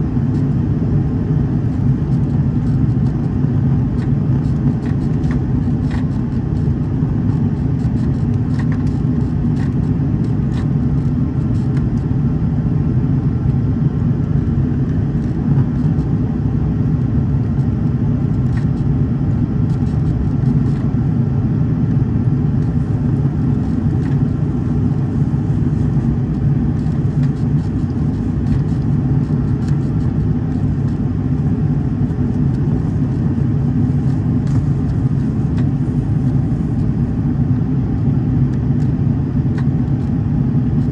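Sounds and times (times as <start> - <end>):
airliner cabin roar: 0.0 - 40.9.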